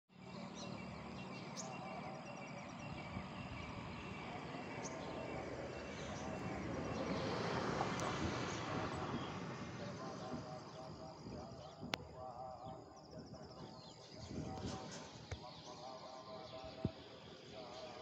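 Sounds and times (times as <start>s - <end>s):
outdoor background noise: 0.1s - 18.0s.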